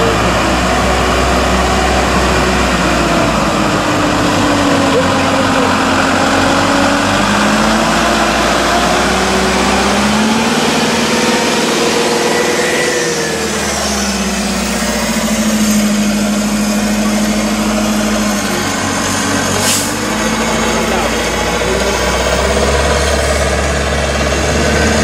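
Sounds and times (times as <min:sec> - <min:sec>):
truck diesel engine under load: 0:00.0 - 0:25.0.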